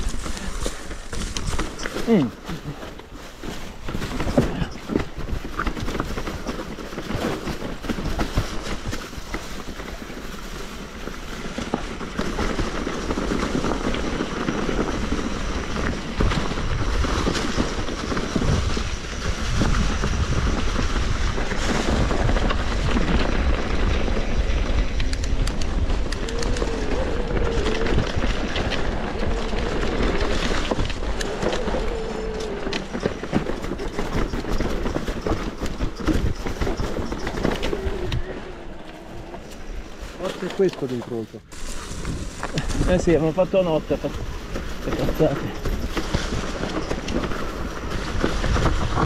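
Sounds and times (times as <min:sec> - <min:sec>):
wind rumble on microphone: 0:00.0 - 0:40.2, 0:41.4 - 0:49.0
bike rattling over bumps: 0:00.0 - 0:49.0
tyre noise on dirt: 0:00.0 - 0:49.0.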